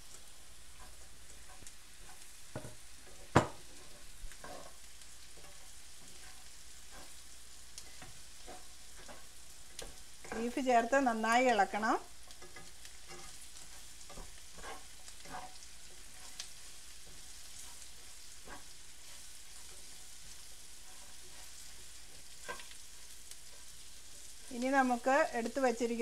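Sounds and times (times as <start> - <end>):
meat sizzling in a pan: 0.0 - 26.0
spoon scraping pan: 0.1 - 25.9.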